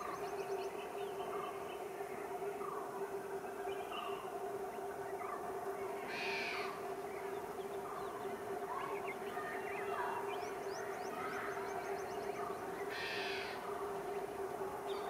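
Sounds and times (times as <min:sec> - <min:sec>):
electric locomotive hum: 0:00.0 - 0:15.0.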